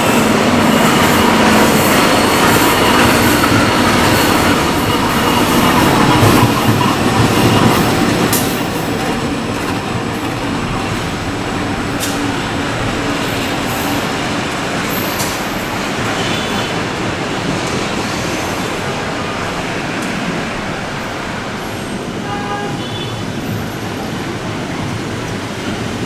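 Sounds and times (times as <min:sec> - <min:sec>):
train wheels clicking: 0:00.0 - 0:21.3
train running on rails: 0:00.0 - 0:26.0.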